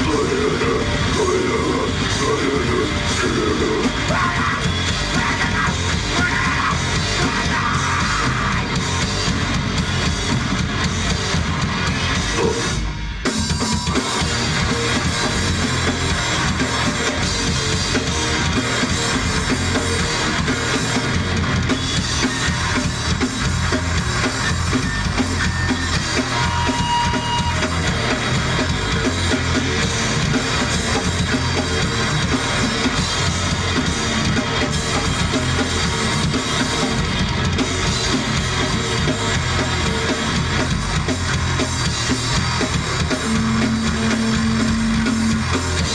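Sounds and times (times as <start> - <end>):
live rock band playing: 0.0 - 45.9
pounding bass drum: 0.0 - 45.9.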